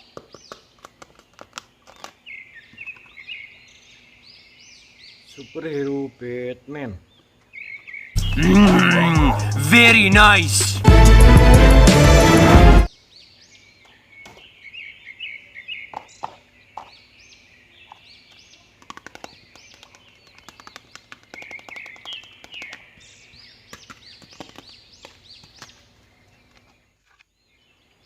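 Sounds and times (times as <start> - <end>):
small birds chirping: 0.0 - 10.7, 12.9 - 28.0.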